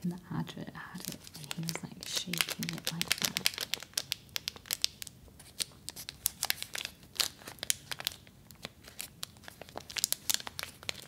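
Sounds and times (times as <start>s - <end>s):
wrapper crackling: 0.9s - 11.0s.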